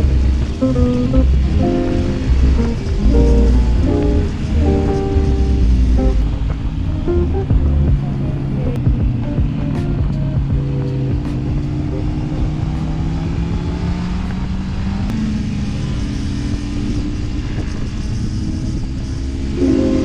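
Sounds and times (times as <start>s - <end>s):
motorcycle engine running: 0.0s - 20.0s
wind noise: 0.0s - 20.0s.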